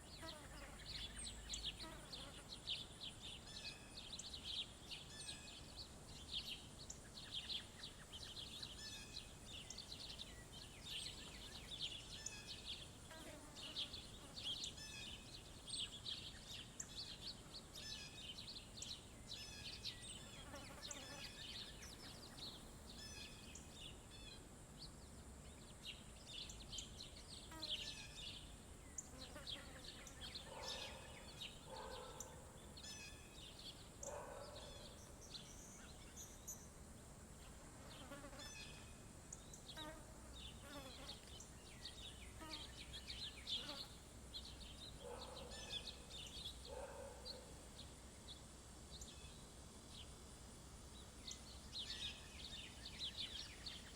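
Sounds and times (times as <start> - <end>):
songbirds chirping and twittering: 0.0 - 53.9.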